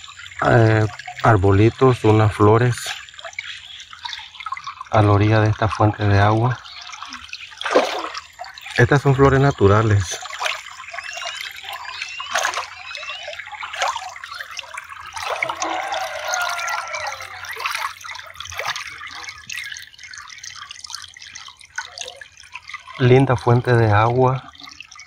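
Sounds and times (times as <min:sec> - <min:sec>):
water drips and splashes: 0:00.0 - 0:25.0
water trickling over rocks: 0:00.0 - 0:25.0.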